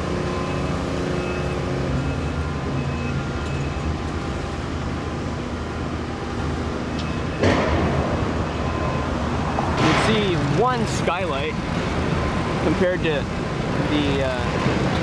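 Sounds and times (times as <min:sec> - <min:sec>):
traffic engine hum: 0:00.0 - 0:15.0.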